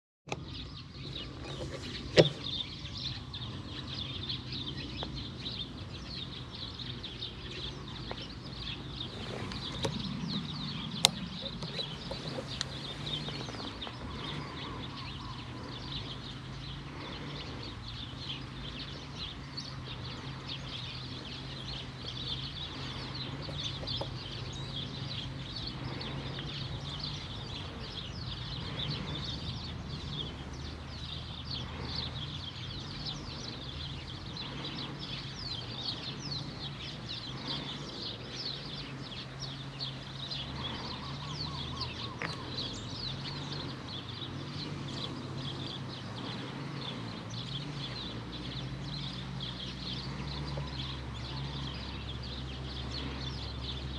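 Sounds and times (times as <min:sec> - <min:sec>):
birds chirping: 0:00.3 - 0:53.9
steady low hum: 0:00.3 - 0:53.9.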